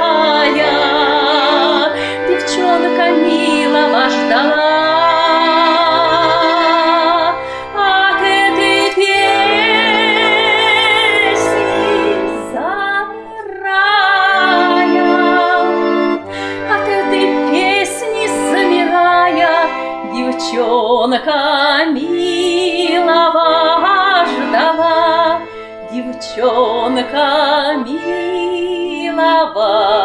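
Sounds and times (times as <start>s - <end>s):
button accordion playing: 0.0s - 30.0s
woman singing with vibrato: 0.0s - 30.0s.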